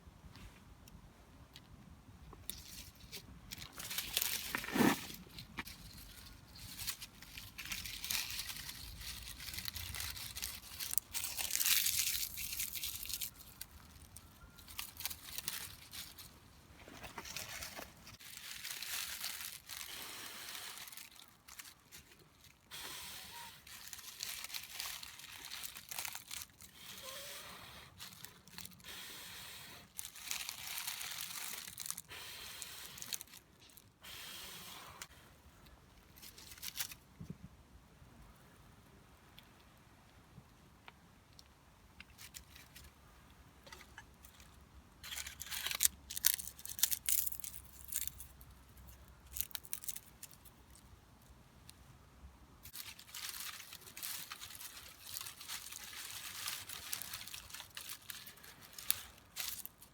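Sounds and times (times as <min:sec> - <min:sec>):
rustling and crinkling: 0:01.6 - 0:29.0, 0:29.7 - 0:34.0, 0:34.8 - 0:37.6, 0:40.9 - 0:51.9, 0:52.6 - 0:59.9.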